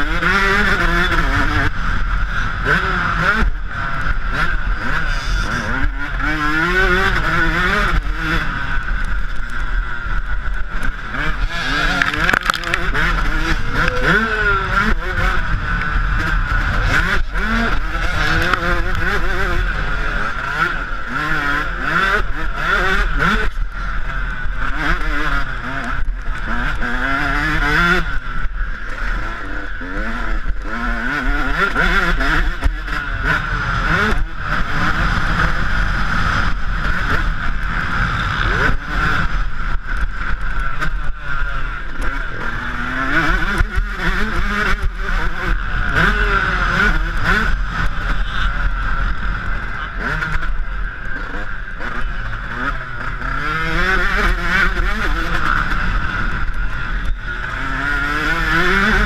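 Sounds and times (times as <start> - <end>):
two-stroke motocross engine revving: 0.0 - 59.0.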